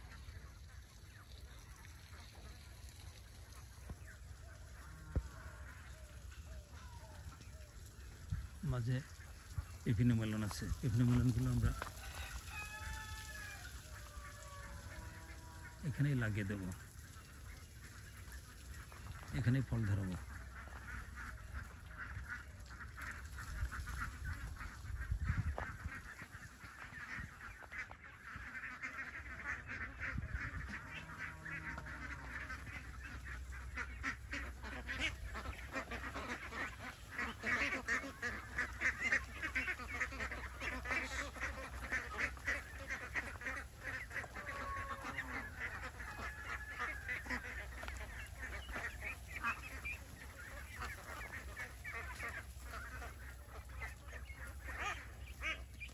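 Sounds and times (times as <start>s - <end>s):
flock of ducks quacking: 0.0s - 55.9s.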